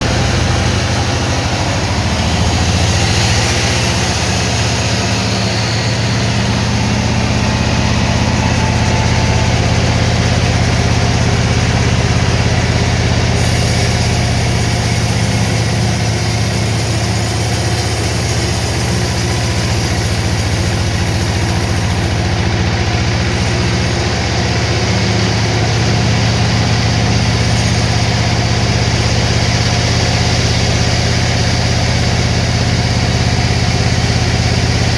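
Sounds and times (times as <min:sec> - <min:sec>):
sawmill machinery running: 0:00.0 - 0:34.9.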